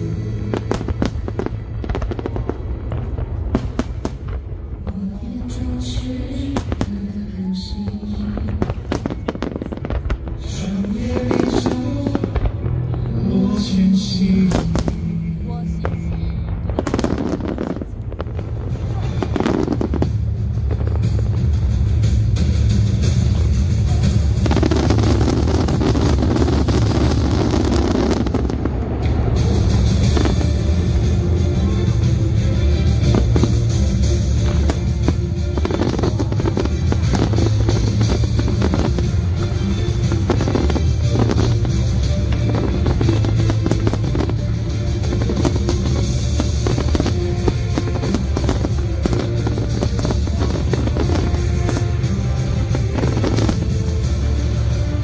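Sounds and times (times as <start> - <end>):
fireworks crackling: 0.0 - 55.0
music over loudspeakers with heavy bass: 0.0 - 55.0.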